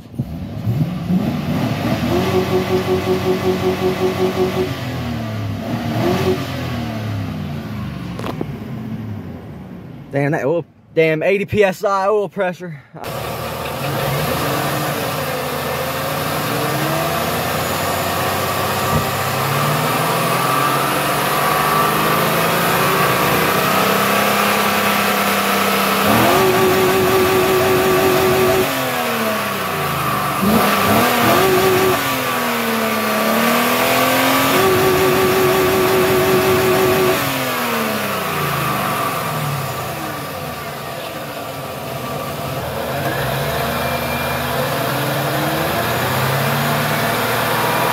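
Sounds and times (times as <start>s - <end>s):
car engine revving: 0.0s - 10.3s, 13.0s - 47.9s.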